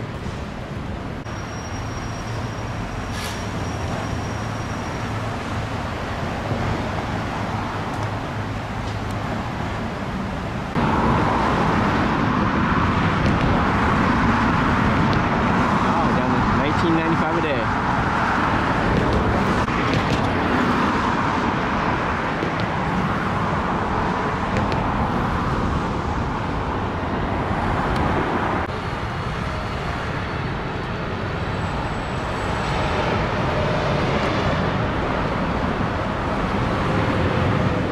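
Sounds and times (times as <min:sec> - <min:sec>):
road traffic rushing: 0:00.0 - 0:37.9.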